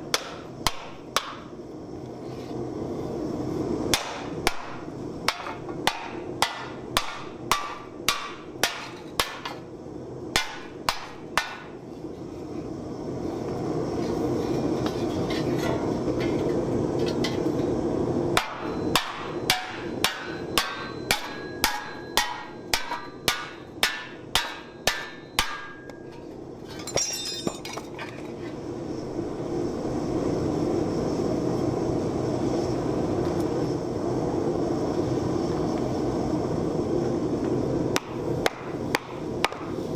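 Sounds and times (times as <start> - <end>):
gas forge hissing: 0.0 - 26.6, 28.4 - 39.9.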